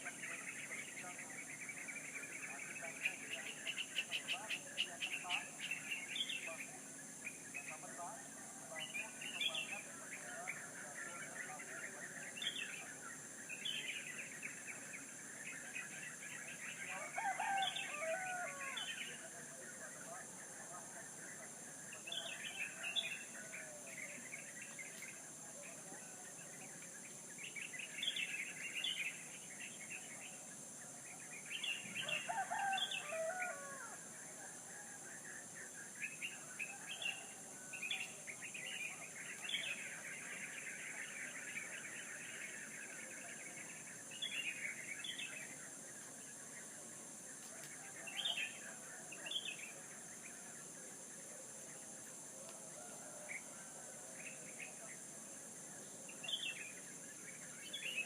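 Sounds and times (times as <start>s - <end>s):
small birds chirping: 0.0s - 33.7s, 34.3s - 58.0s.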